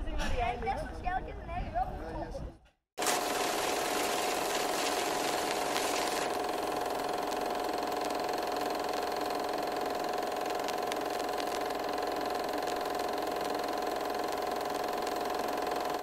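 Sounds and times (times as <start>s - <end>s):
film projector whirring clatter: 3.0s - 16.0s.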